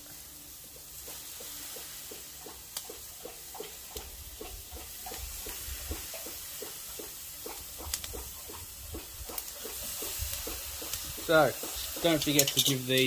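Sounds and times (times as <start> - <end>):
chicken sizzling on a grill: 0.0 - 13.0.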